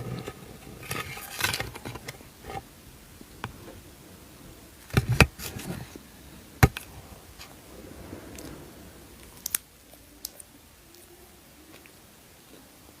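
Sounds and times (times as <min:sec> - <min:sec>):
faint rustling of wrapping: 0:00.0 - 0:03.9, 0:04.8 - 0:12.7.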